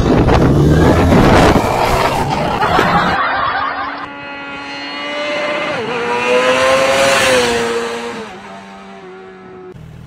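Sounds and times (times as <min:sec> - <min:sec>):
wind and road noise rushing: 0:00.0 - 0:09.8.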